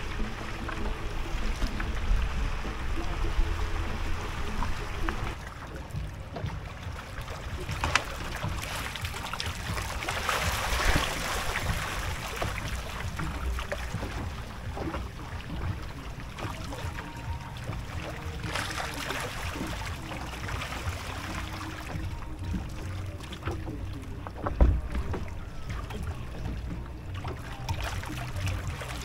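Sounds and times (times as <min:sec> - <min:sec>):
low rumble: 0:00.0 - 0:29.0
water lapping against kayak: 0:00.0 - 0:29.0
small splashes and knocks: 0:04.5 - 0:29.0.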